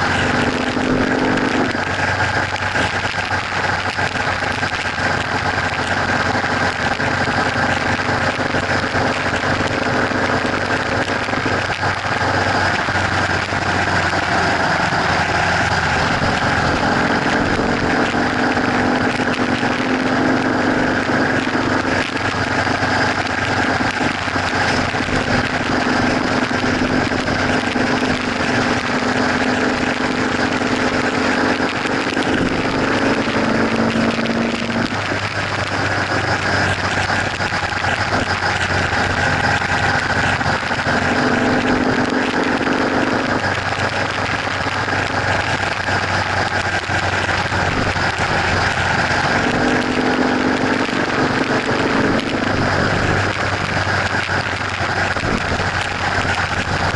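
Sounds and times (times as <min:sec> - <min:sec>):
motorcycle engine cruising: 0:00.0 - 0:56.9
wind and road noise: 0:00.0 - 0:56.9.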